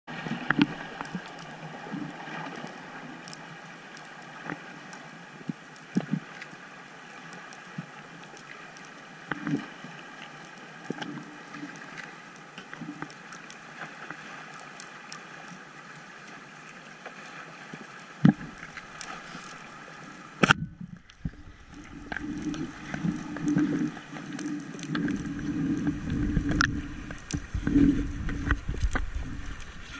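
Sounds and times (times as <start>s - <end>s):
low churning of water: 0.1s - 29.9s.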